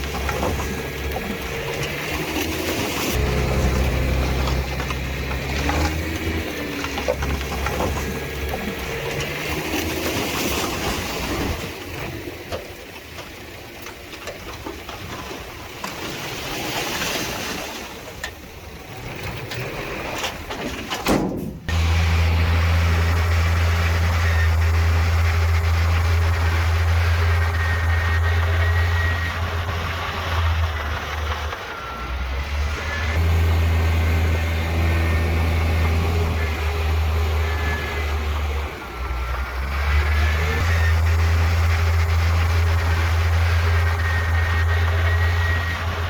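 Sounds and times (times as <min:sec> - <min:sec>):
diesel engine running: 0:00.0 - 0:13.8, 0:21.6 - 0:46.0.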